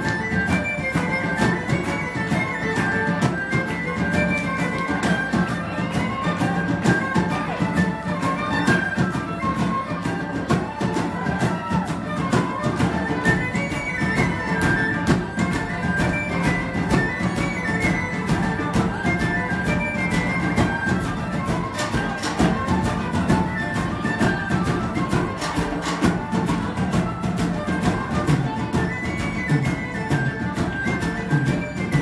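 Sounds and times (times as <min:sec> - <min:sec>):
driving drum beat: 0:00.0 - 0:32.0
flute and violins melody: 0:00.0 - 0:32.0.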